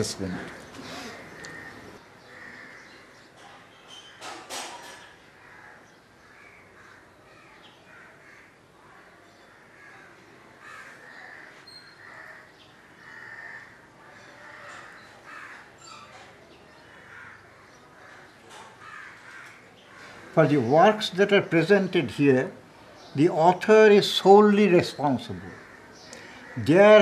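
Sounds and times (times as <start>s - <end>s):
crows cawing faintly: 0.0s - 20.7s, 25.3s - 27.0s.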